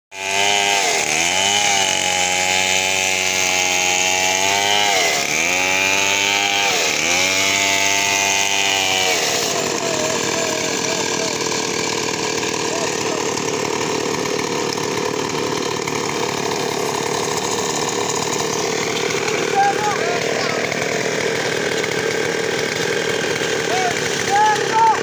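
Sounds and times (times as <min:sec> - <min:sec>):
chainsaw ripping a log: 0:00.1 - 0:25.0
second chainsaw running faintly: 0:00.2 - 0:25.0.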